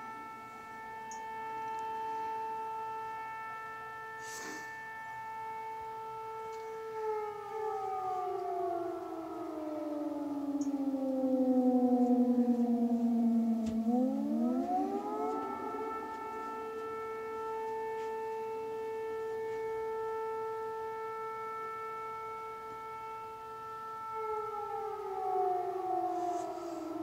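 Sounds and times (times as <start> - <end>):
air-raid siren: 0.0 - 27.0.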